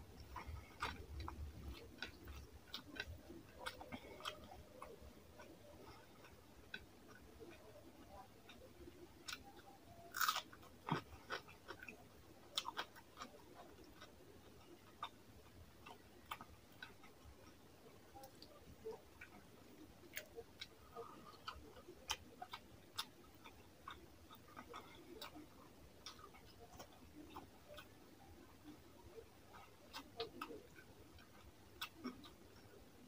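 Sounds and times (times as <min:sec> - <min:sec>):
chewing food: 0:00.0 - 0:33.0.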